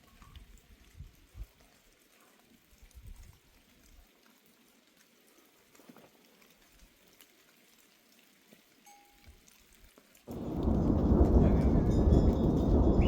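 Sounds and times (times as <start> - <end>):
light rain: 0.0 - 13.0
small drips and ticks: 0.0 - 13.0.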